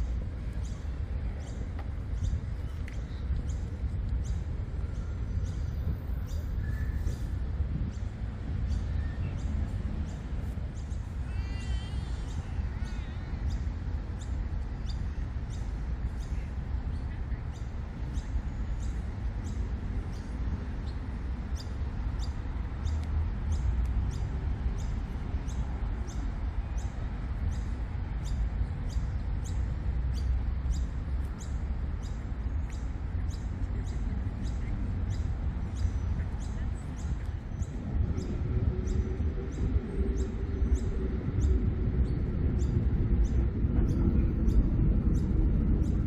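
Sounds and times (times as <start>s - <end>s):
small birds chirping: 0.0s - 46.0s
steady low rumble: 0.0s - 46.0s.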